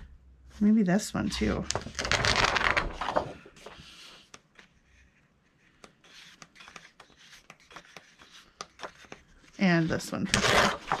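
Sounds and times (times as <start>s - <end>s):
paper rustling: 1.2s - 11.0s.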